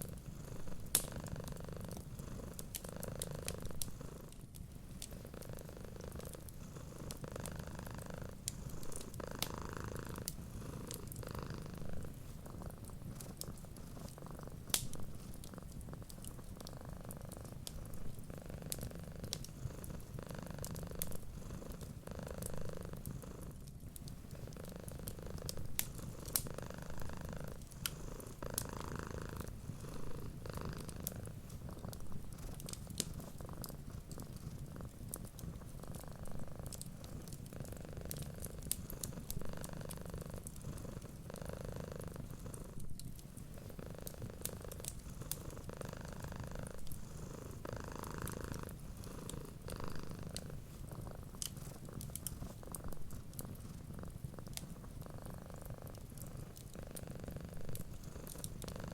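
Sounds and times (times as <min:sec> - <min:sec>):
wood fire crackling: 0:00.0 - 0:41.3, 0:41.9 - 0:58.9
cat purring: 0:00.0 - 0:58.9.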